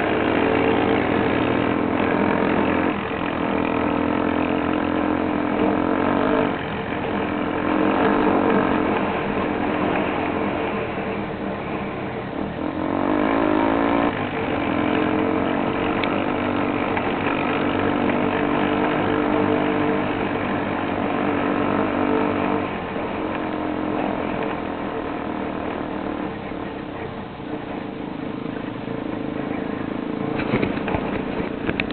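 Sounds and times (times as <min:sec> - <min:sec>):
motorcycle engines revving: 0:00.0 - 0:31.9.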